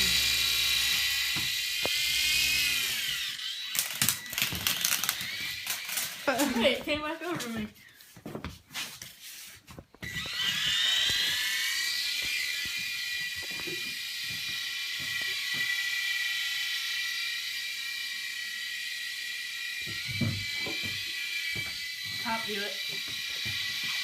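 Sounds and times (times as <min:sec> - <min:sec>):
toy helicopter motor whining: 0:00.0 - 0:07.8, 0:09.9 - 0:24.0.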